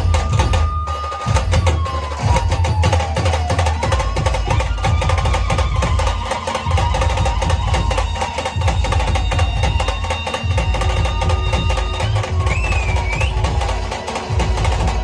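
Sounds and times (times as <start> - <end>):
deep dhol drum beats: 0.0 - 15.0
fast tasha drum strokes: 0.0 - 15.0.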